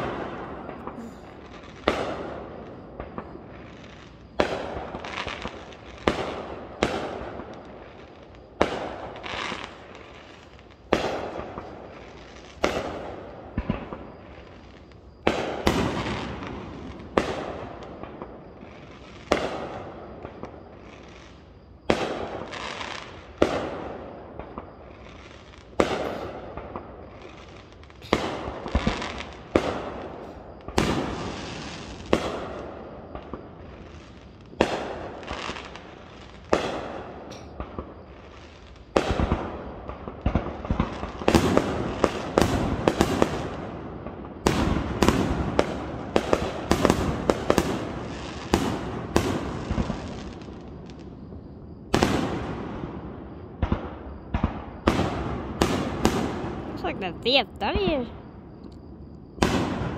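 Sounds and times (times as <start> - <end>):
fireworks bursting with sharp bangs: 0.0 - 59.9.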